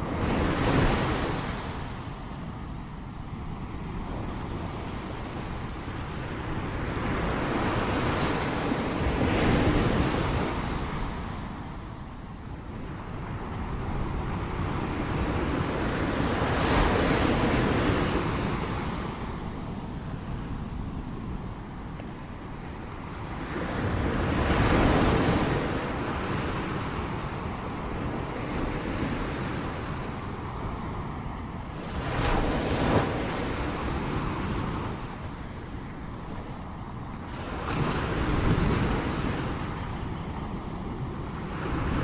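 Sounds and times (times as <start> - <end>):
ocean waves washing on shore: 0.0 - 42.0.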